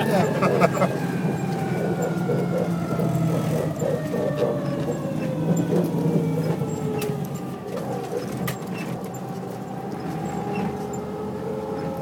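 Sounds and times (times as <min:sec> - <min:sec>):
truck engine drone with whine: 0:00.0 - 0:12.0.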